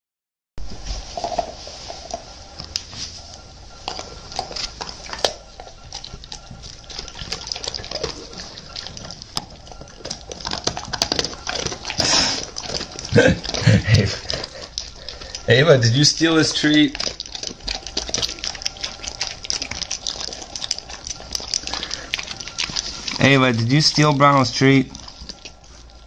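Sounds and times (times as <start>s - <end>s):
dog sniffing and licking: 0.9s - 26.0s.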